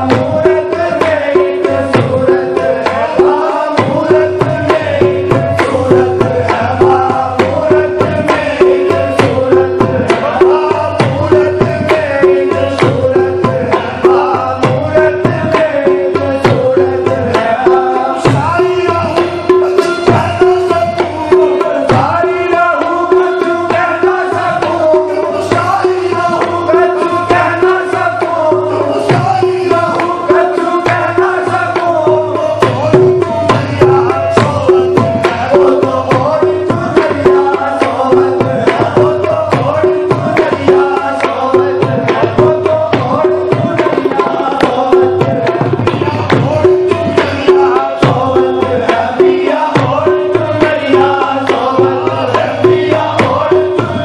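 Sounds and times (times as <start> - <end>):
person singing: 0.0 - 54.0
tabla beat: 0.0 - 54.0.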